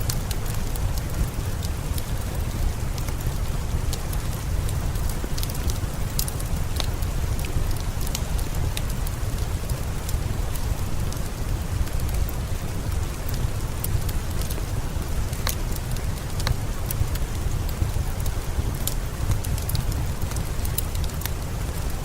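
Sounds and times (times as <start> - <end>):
steady rain falling: 0.0 - 22.0
wood fire crackling: 0.0 - 22.0.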